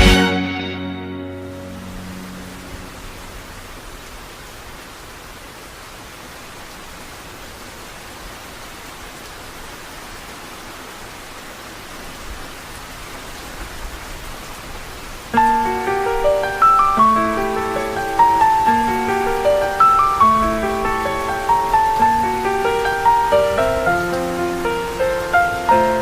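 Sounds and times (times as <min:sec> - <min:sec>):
rain-like hiss: 0:00.0 - 0:26.0.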